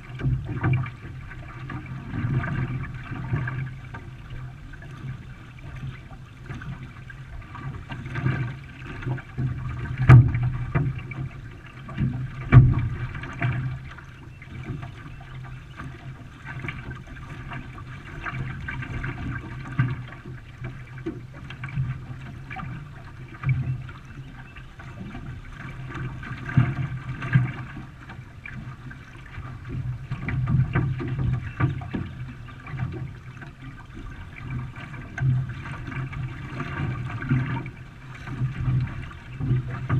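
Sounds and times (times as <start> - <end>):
water splashing around canoe: 0.0 - 39.9.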